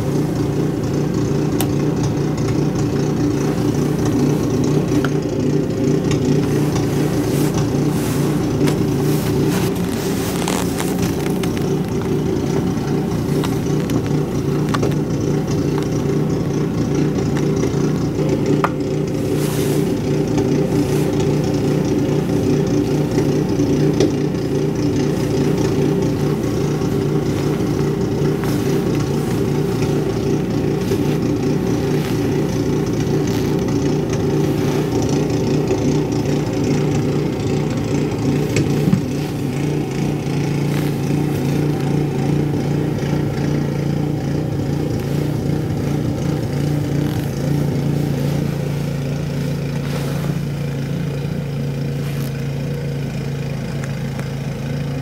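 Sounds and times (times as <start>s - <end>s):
snow blower engine running: 0.0s - 55.0s.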